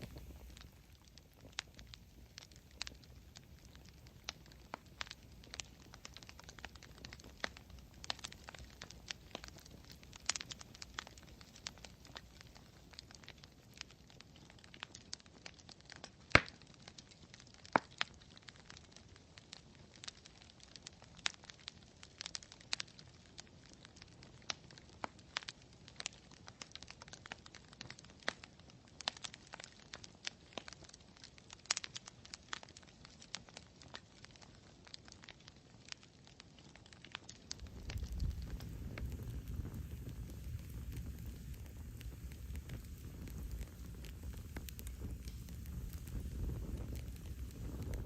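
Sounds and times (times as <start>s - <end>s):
campfire crackling: 0.0s - 48.0s
fire pops and snaps: 0.0s - 48.0s.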